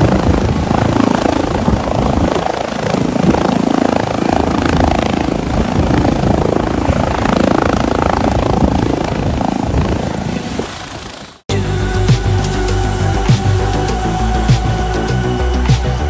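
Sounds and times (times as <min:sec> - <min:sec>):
helicopter rotor and turbine: 0:00.0 - 0:16.0.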